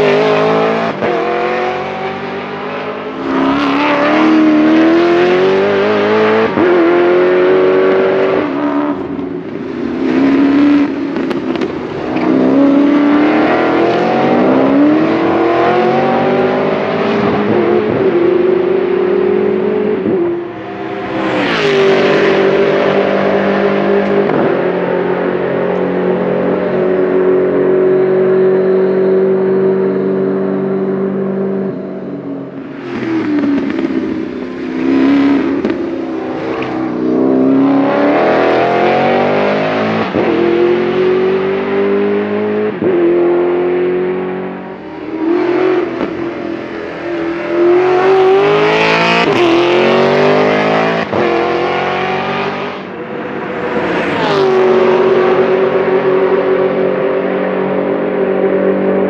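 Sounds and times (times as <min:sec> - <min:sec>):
racing car engine accelerating: 0:00.0 - 0:59.0.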